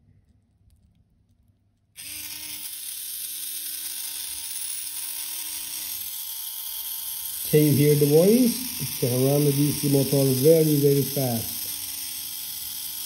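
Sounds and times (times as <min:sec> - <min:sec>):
small motor high whine: 0:02.0 - 0:13.0.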